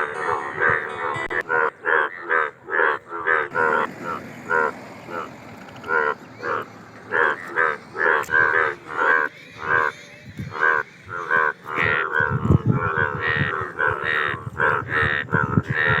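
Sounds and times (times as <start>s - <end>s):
bullfrogs croaking: 0.0s - 16.0s.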